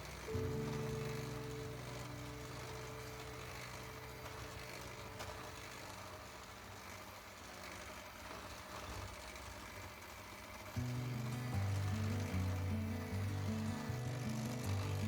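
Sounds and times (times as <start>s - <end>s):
electric hand mixer running: 0.0s - 15.0s.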